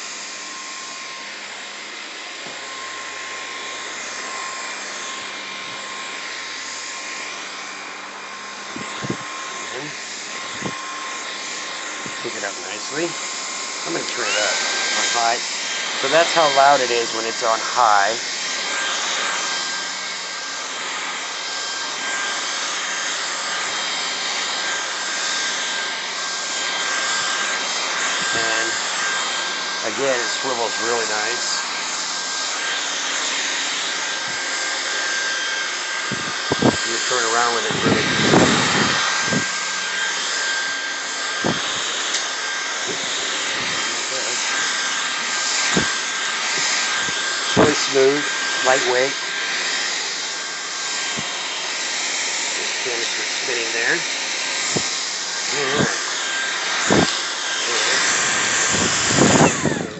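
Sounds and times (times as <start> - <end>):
stick vacuum running: 0.0 - 59.9.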